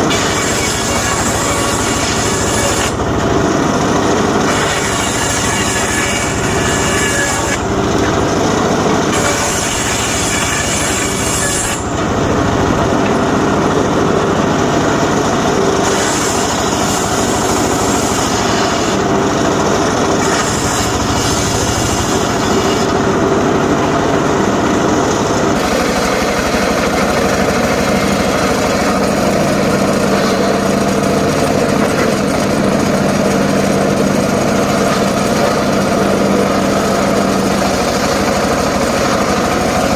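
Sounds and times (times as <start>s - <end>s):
circular saw cutting wood: 0.0s - 39.9s.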